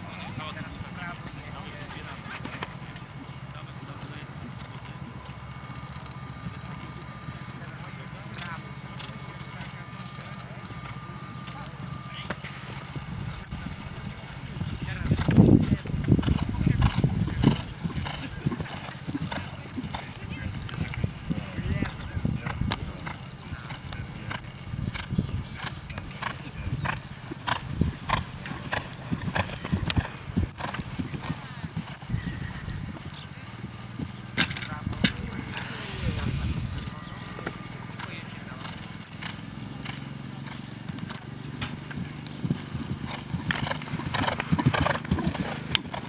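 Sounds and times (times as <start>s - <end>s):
horse cantering on turf: 0.0s - 46.0s.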